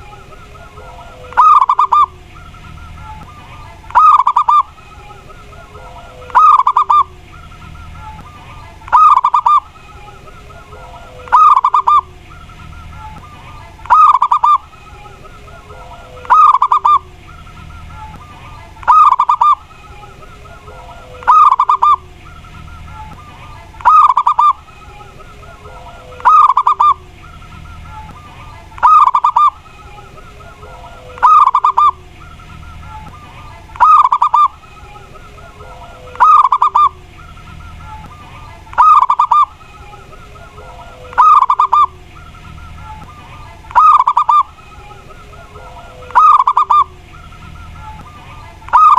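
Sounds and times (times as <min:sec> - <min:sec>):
dove cooing song: 0:00.0 - 0:48.9.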